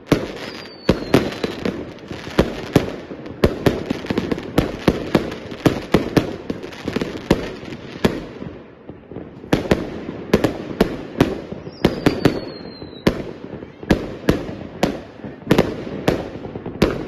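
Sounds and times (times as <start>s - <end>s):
fireworks bangs: 0.0s - 17.0s
rumbling crackle of fireworks: 0.0s - 17.0s.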